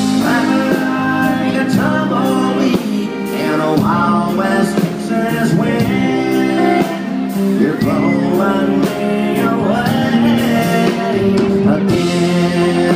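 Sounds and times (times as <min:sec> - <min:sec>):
live country band: 0:00.0 - 0:12.9.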